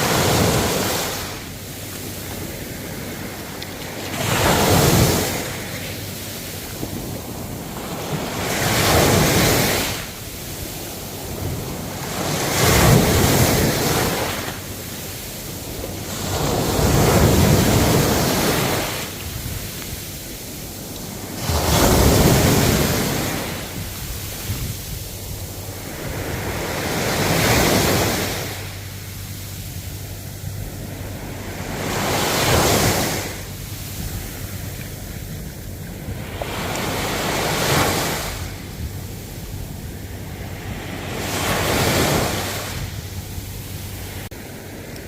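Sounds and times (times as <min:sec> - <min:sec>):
ocean waves breaking on shore: 0:00.0 - 0:45.0.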